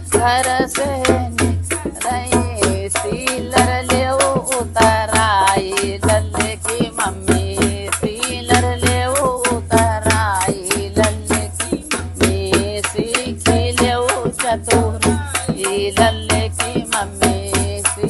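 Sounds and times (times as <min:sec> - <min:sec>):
hand drum beaten in fast rhythm: 0:00.0 - 0:18.0
women singing folk song: 0:00.0 - 0:18.0.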